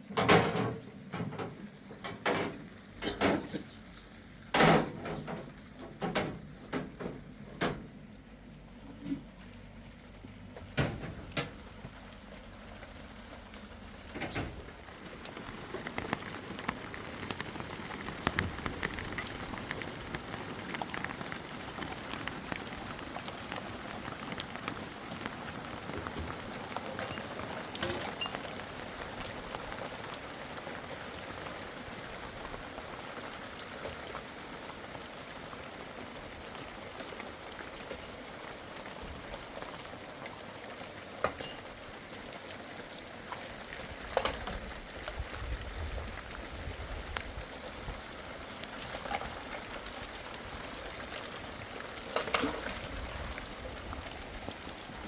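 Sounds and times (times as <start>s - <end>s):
rain falling: 0.0s - 55.0s
raindrops ticking: 0.2s - 55.0s.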